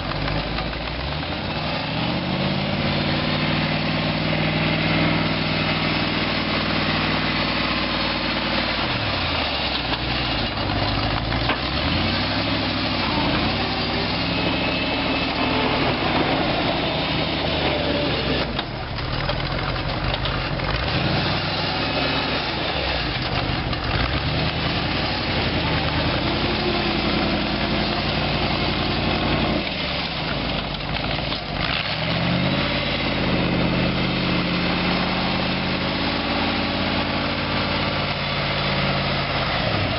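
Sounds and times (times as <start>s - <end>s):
tractor engine revving and idling: 0.0s - 39.9s.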